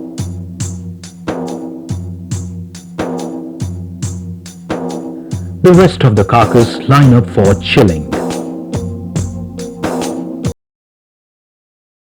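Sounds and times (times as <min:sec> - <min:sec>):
steady percussive beat: 0:00.0 - 0:10.5.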